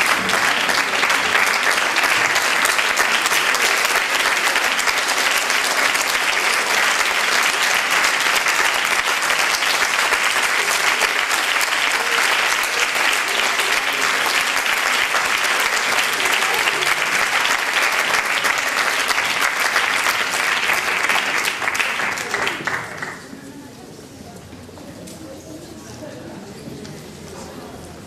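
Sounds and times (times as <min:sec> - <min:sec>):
audience applauding: 0:00.0 - 0:23.3.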